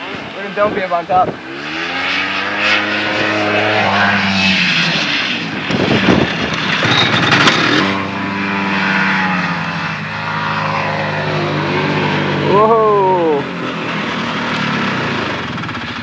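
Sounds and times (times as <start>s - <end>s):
snowmobile engines running: 0.0s - 16.0s.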